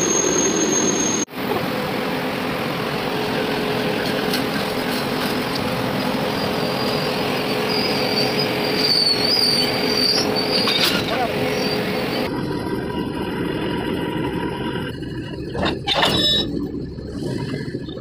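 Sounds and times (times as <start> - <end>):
electric locomotive running slowly: 0.0 - 18.0.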